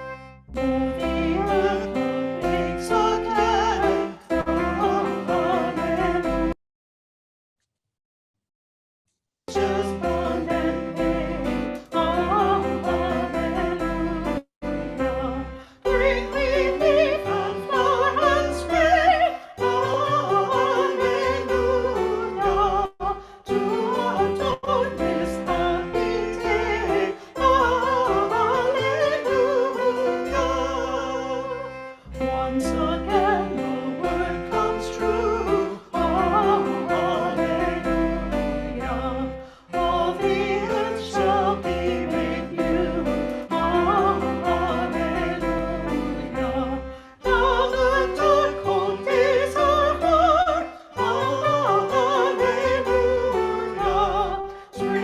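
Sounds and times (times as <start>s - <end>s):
instrumental accompaniment: 0.0s - 6.6s, 9.5s - 22.9s, 23.5s - 55.0s
two people singing a hymn: 0.6s - 6.6s, 9.5s - 55.0s.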